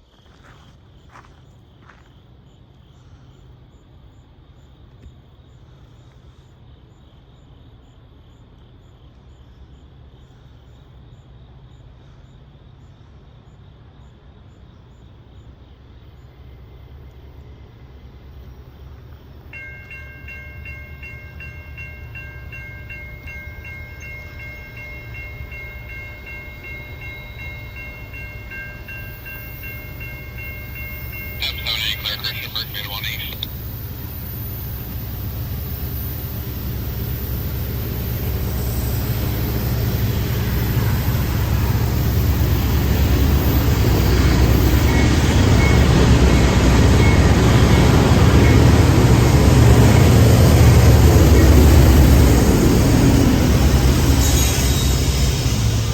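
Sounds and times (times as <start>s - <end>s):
diesel locomotive engine rumble: 9.2s - 55.9s.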